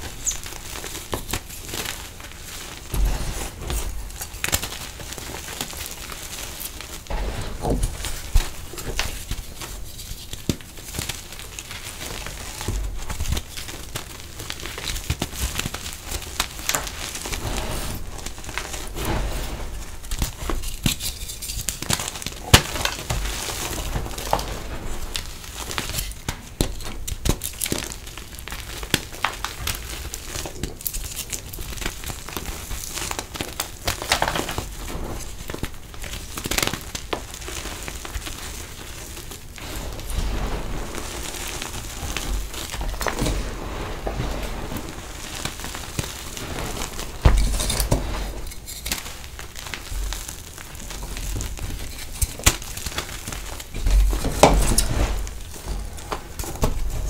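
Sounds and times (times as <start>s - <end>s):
chalk crunching and crackling: 0.0s - 57.0s
powder sifting through fingers: 0.0s - 57.0s.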